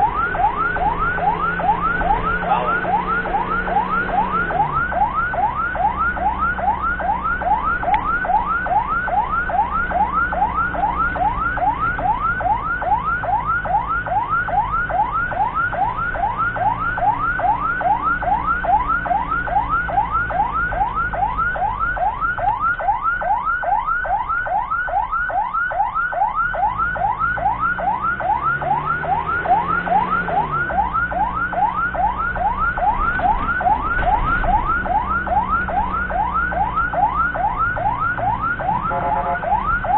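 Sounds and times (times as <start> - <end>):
ambulance siren yelping: 0.0 - 39.9
vehicle engine hum: 0.0 - 39.9.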